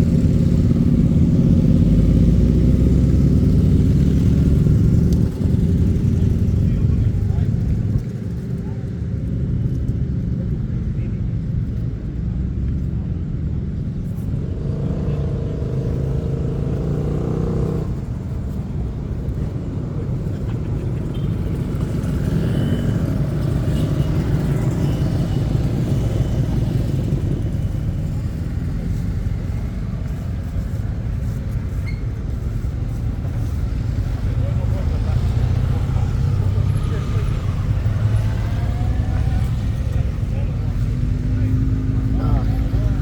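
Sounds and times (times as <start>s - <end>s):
motorcycle engines running: 0.0s - 43.0s.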